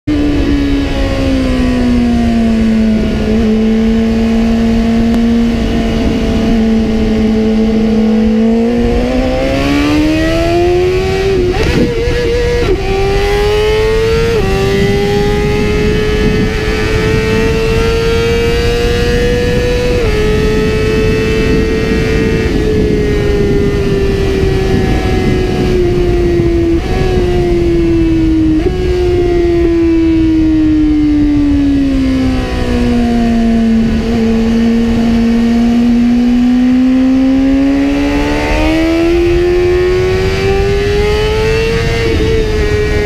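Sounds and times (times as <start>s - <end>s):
motorcycle engine accelerating: 0.1s - 43.0s
wind rush on microphone: 0.1s - 43.0s.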